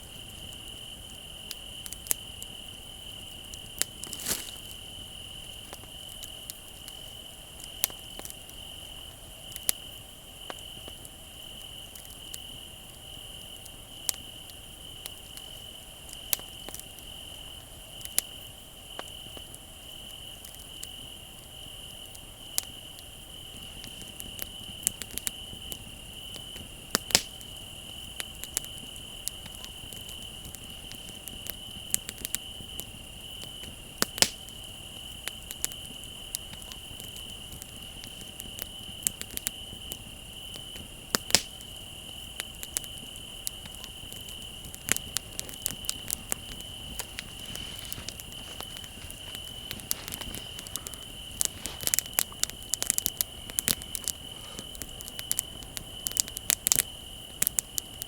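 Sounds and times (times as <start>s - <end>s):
crickets trilling: 0.0s - 58.0s
wood fire crackling and popping: 0.0s - 58.0s.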